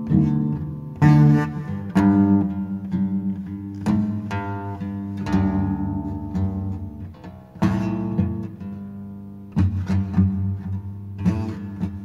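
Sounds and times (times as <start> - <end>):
out-of-tune guitar strummed chords: 0.0 - 12.0.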